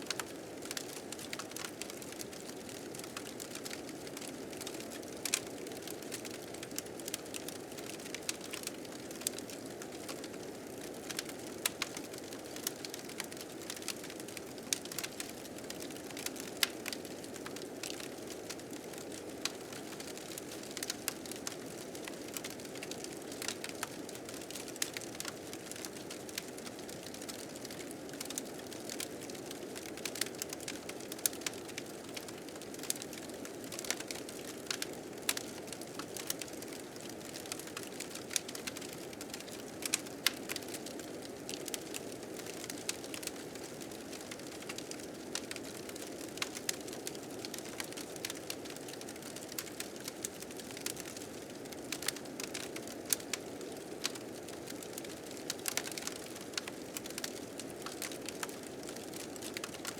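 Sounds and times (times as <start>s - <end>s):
wood fire crackling and popping: 0.1s - 59.9s.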